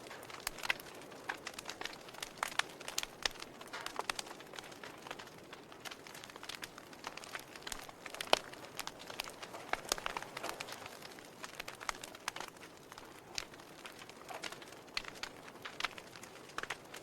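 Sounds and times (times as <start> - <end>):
soft steady hiss: 0.0 - 17.0
wood fire crackling: 0.0 - 17.0.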